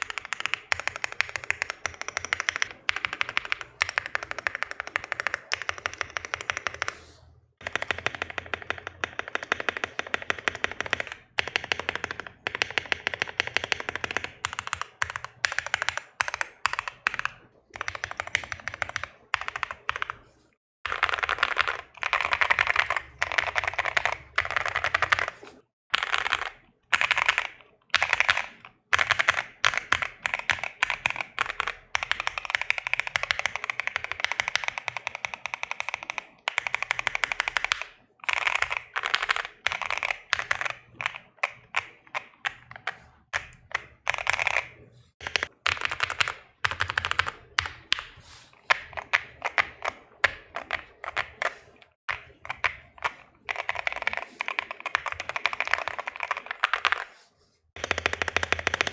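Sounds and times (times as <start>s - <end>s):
fast typing on mechanical keyboard: 0.0s - 7.0s, 7.6s - 20.2s, 20.9s - 58.9s.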